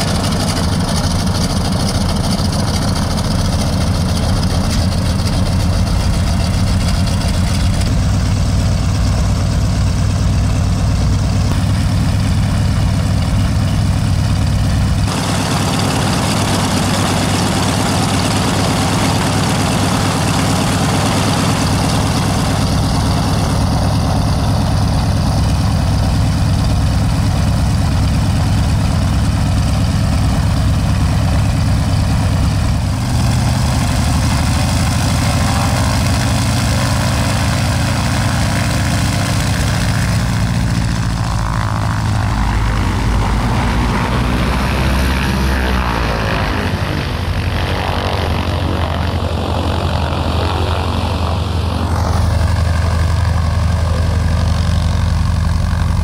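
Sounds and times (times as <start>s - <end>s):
radial aircraft engines droning: 0.0s - 56.0s.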